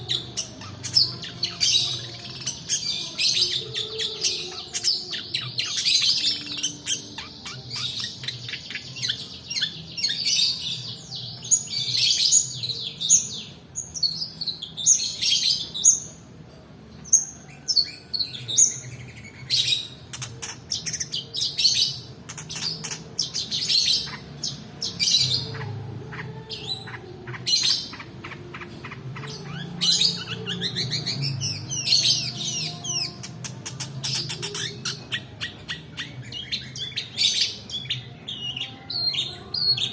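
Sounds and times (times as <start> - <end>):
bird singing chirps and trills: 0.0 - 16.2, 17.0 - 39.9.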